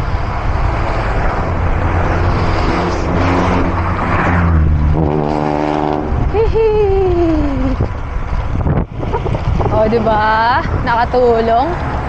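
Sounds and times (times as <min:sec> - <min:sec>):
car passing: 0:00.0 - 0:12.0
wind rumble on microphone: 0:00.0 - 0:12.0.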